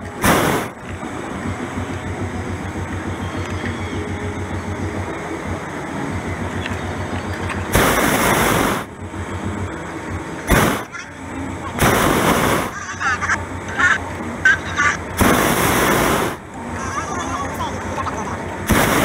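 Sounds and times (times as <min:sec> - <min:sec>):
propane burner rushing: 0:00.0 - 0:19.0.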